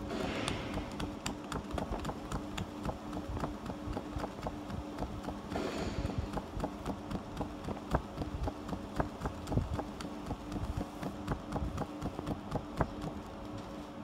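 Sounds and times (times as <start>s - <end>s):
laser cutter ticking: 0.0s - 13.6s
machine hum: 0.0s - 14.0s.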